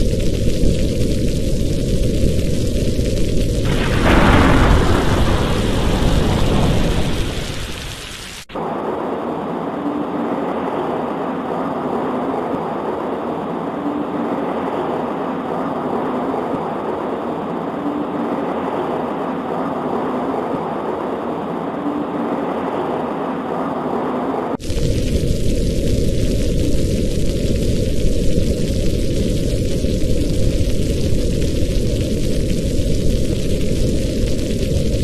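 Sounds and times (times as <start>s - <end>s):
heavy rain: 0.0s - 35.0s
faint hum: 3.0s - 31.1s.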